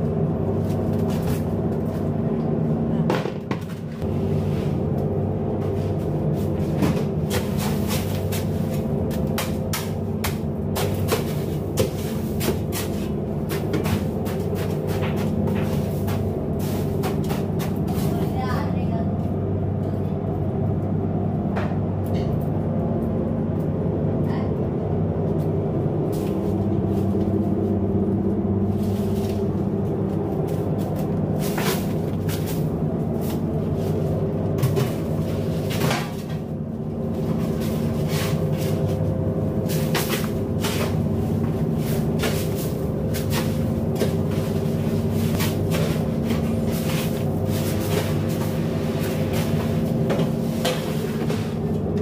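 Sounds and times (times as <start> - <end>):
diesel engine droning: 0.0 - 52.0.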